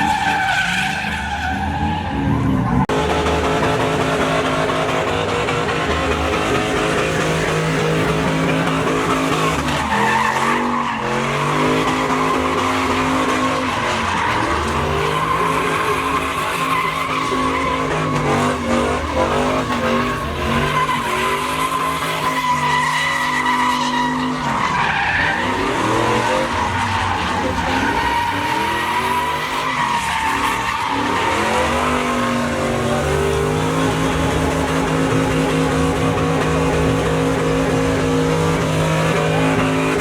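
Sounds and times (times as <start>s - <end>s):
tires squealing: 0.0s - 40.0s
truck engine revving: 0.0s - 40.0s.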